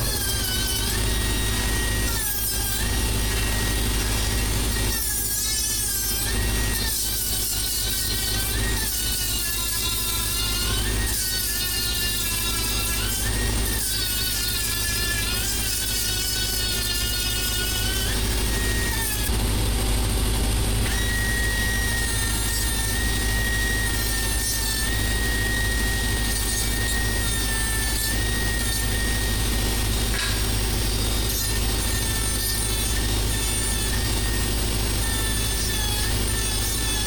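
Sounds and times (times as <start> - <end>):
angle grinder whining: 0.0 - 37.0.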